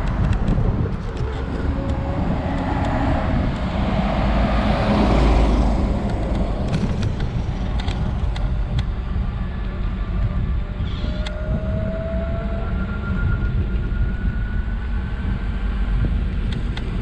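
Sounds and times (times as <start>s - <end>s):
wind rush over microphone: 0.0s - 17.0s.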